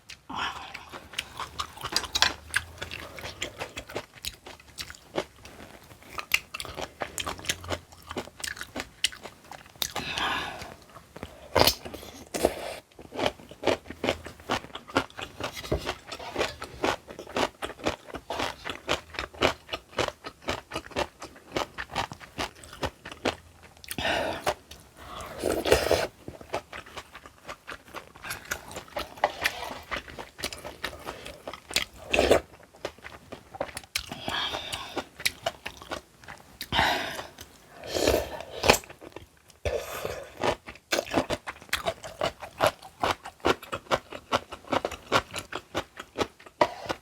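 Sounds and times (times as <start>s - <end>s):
crunching and chewing food: 0.0s - 47.0s.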